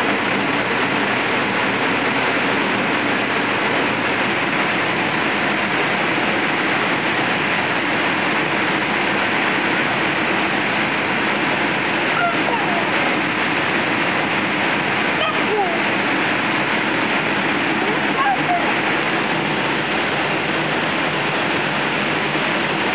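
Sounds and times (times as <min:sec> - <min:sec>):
electric air blowers rushing: 0:00.0 - 0:22.9.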